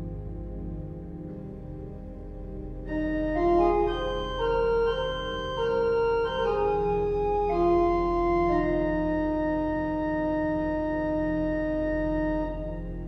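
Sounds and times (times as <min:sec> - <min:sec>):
pipe organ playing sustained chords: 0:00.0 - 0:13.0.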